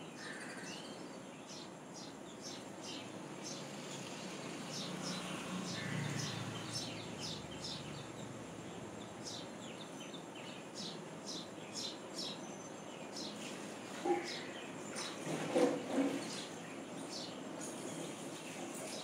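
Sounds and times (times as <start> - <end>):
outdoor background noise: 0.0 - 19.0
small birds chirping: 0.0 - 19.0.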